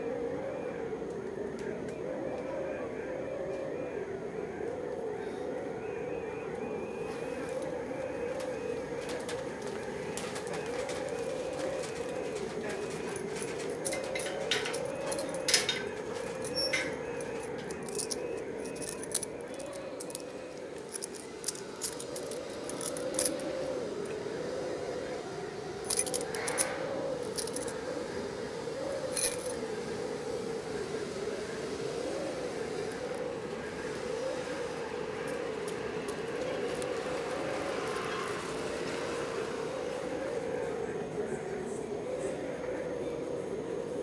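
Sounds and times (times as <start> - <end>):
steady wavering hum: 0.0 - 44.0.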